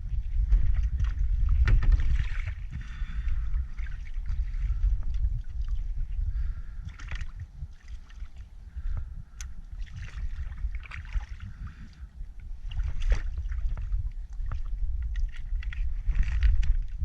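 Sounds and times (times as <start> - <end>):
steady low rumble: 0.0 - 17.0
water sloshing and splashing: 0.0 - 17.0.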